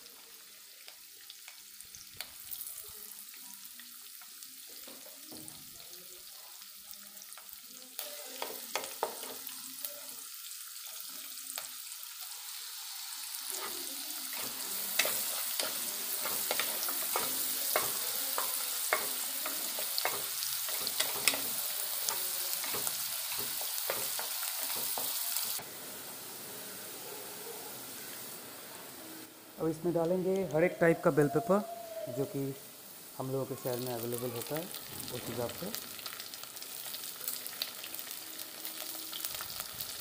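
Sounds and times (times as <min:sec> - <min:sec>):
vegetables sizzling in hot oil: 0:00.0 - 0:40.0.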